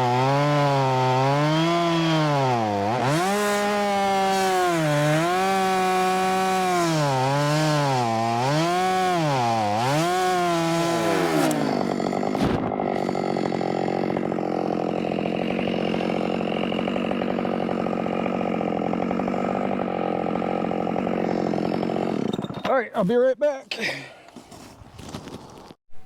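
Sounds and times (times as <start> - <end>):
chainsaw cutting wood: 0.0 - 22.7.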